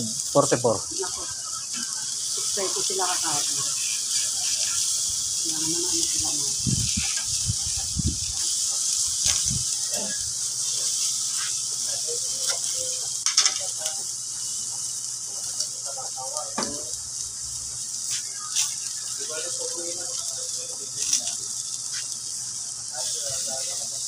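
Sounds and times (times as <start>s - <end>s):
chicken sizzling on charcoal grill: 0.0s - 24.0s
crackles and clicks: 0.0s - 24.0s.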